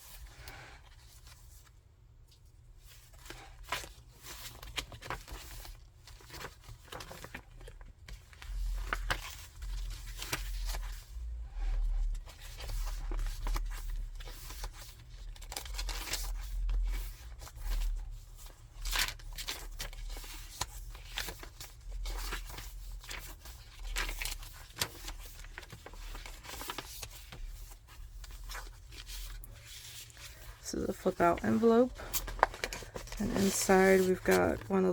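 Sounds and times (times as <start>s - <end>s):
paper pages rustling and crinkling: 0.0s - 34.9s.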